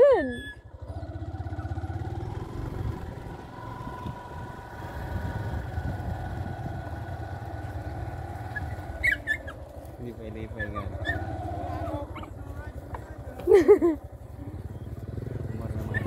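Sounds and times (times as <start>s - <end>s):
small motorcycle engine idling: 0.1s - 16.0s.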